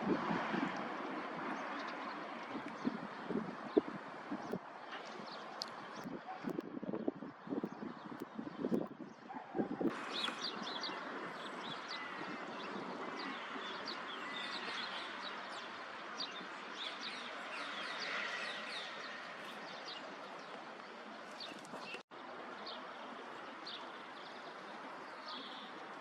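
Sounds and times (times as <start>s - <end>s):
outdoor background noise: 0.0s - 26.0s
small birds chirping: 1.6s - 26.0s.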